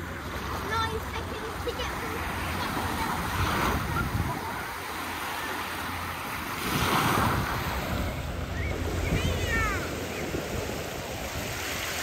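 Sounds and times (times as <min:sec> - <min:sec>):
wind on microphone: 0:02.3 - 0:12.0.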